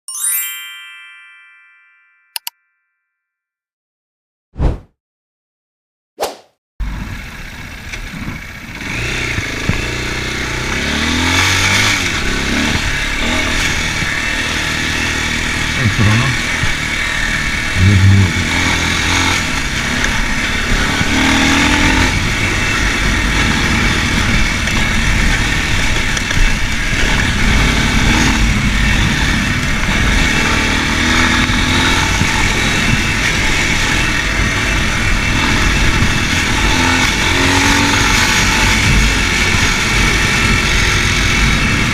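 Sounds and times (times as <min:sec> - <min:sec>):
motorcycle engine revving: 0:06.8 - 0:41.9.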